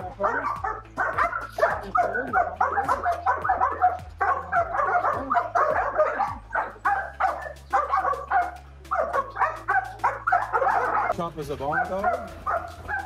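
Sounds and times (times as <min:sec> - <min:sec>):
dogs barking: 0:00.0 - 0:13.0.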